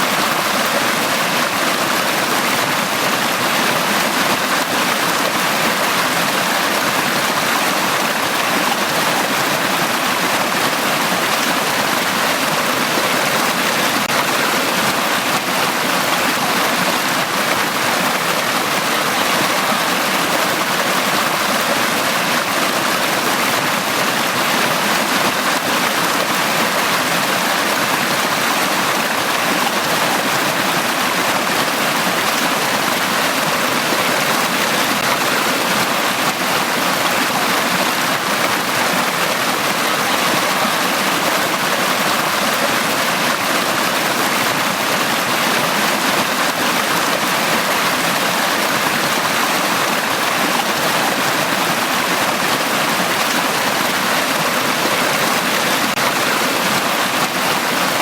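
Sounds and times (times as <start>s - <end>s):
stream flowing: 0.0s - 58.0s.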